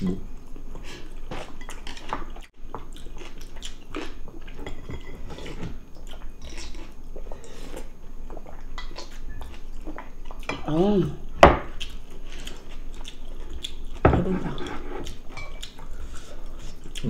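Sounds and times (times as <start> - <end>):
chewing and mouth sounds: 0.6 - 4.6, 5.4 - 10.6, 11.7 - 17.0.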